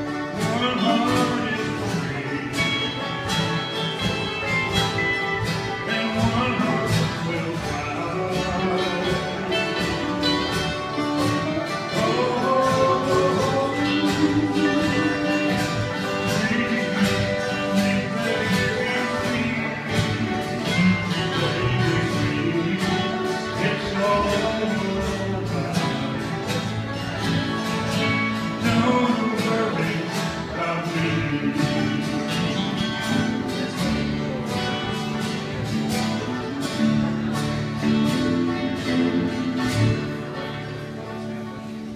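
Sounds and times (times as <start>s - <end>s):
country music with guitar: 0.0s - 41.9s.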